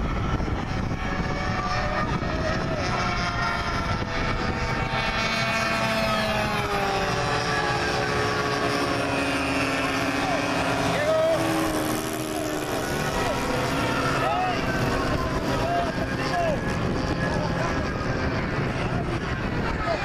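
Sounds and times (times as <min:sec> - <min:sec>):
model airplane engines whining: 0:00.0 - 0:20.0.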